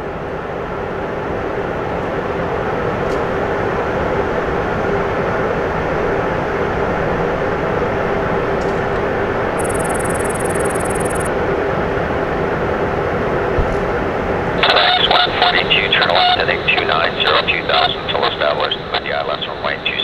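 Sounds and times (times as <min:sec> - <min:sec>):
aircraft auxiliary power unit drone: 0:00.0 - 0:20.0.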